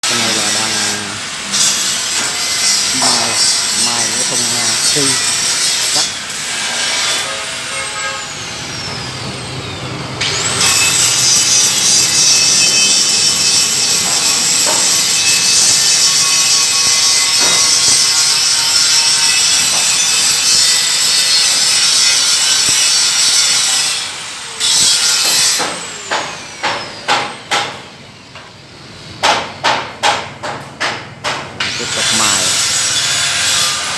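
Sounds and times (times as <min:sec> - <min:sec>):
handheld grinder grinding metal: 0:00.0 - 0:25.9, 0:31.6 - 0:33.9.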